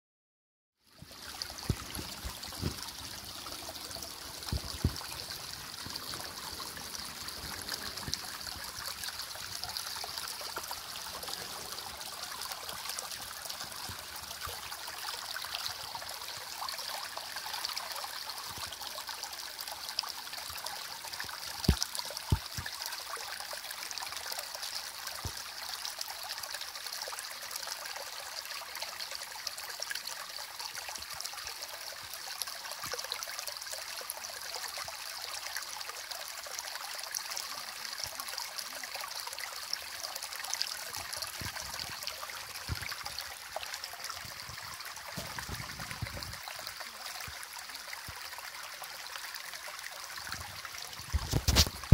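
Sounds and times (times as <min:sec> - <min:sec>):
stream trickling over rocks: 0:00.8 - 0:51.9.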